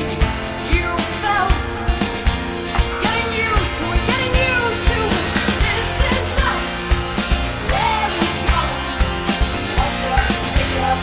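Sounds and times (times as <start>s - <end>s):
drums beating: 0.0s - 11.0s
rock band music: 0.0s - 11.0s.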